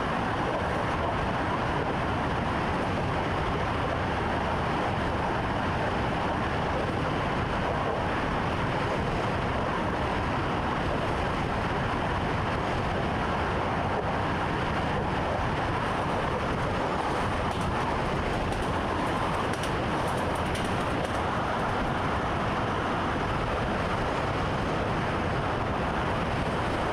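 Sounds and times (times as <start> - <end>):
train rumbling: 0.0 - 26.9.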